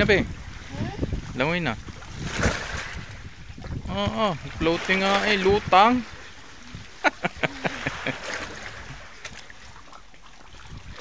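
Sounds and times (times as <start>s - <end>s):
water splashing around swimmer: 0.0s - 11.0s.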